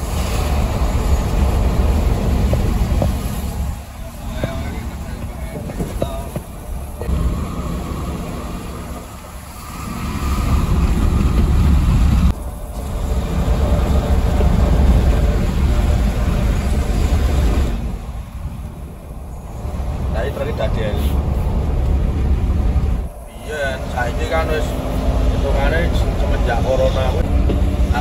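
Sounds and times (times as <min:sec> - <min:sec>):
coach diesel engine: 0:00.0 - 0:28.0
road rumble: 0:00.0 - 0:28.0.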